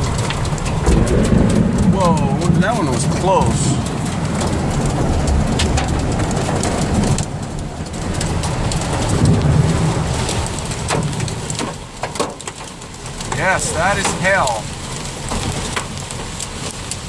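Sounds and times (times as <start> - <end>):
hailstone impacts: 0.0 - 17.0
heavy rain on a vehicle: 0.0 - 17.0
thunder rumble: 0.0 - 17.0.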